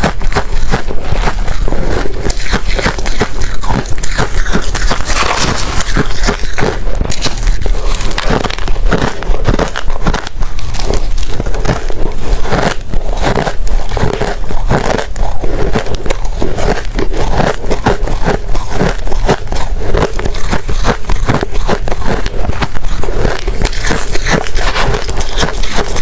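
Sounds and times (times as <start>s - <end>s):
ice crunching while chewed: 0.0s - 26.0s.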